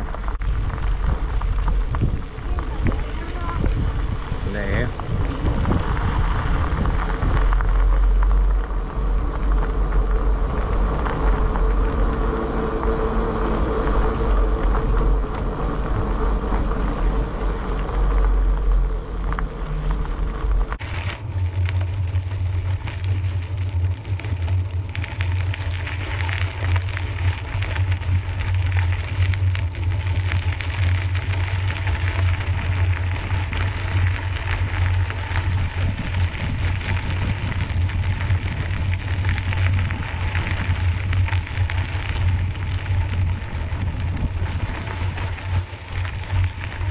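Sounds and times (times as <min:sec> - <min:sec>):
bicycle tyres on gravel: 0:00.0 - 0:46.9
wind rumble on microphone: 0:00.0 - 0:46.9.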